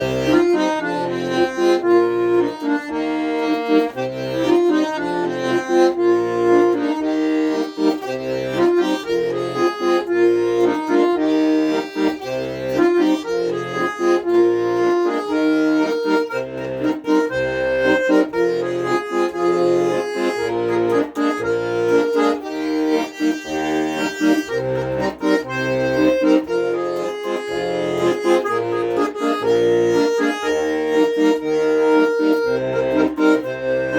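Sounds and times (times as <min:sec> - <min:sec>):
accordion melody with bass: 0:00.0 - 0:33.9.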